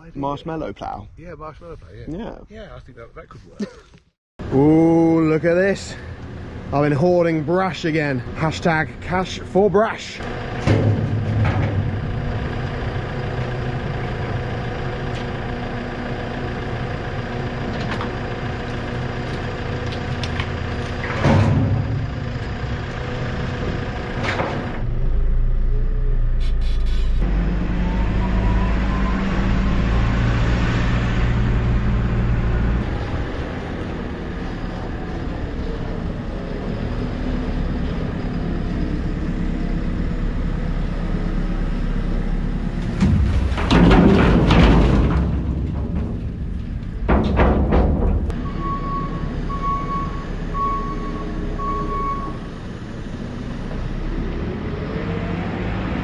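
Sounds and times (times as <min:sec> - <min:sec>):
tractor engine running: 0:04.4 - 0:55.2.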